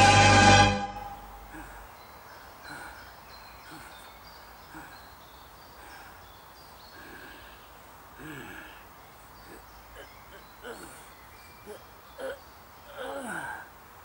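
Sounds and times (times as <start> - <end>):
birds chirping: 1.0 - 14.0
man breathing and groaning: 1.0 - 14.0.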